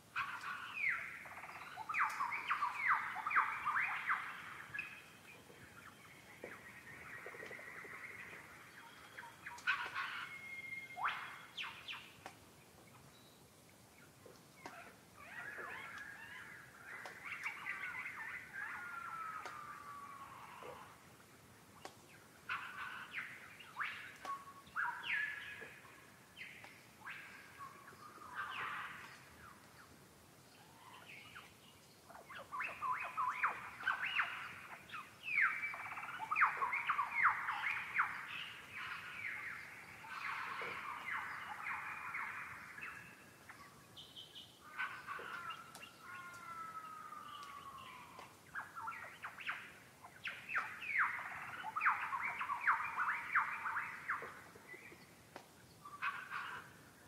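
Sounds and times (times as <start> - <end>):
birds calling and chattering: 0.0 - 57.0
slow falling bird call: 0.2 - 57.0.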